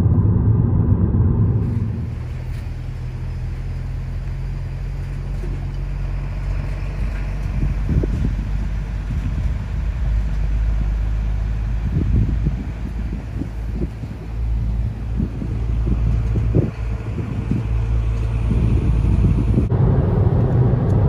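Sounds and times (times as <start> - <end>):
car road rumble from inside: 0.0 - 21.0.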